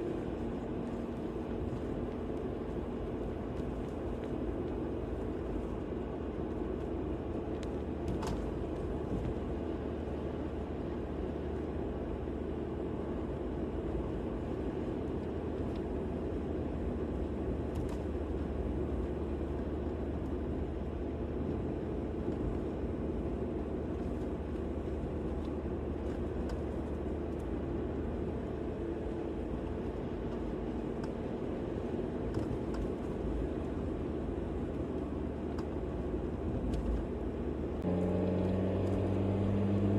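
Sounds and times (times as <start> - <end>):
vehicle road and engine rumble: 0.0 - 39.9.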